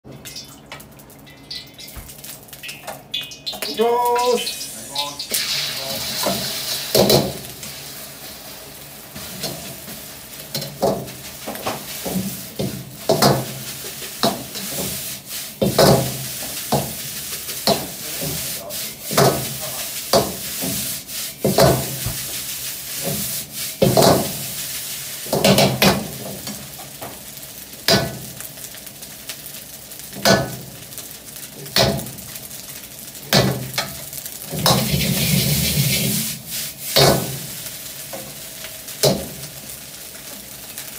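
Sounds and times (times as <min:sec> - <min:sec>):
frying sizzle: 0:00.0 - 0:40.9.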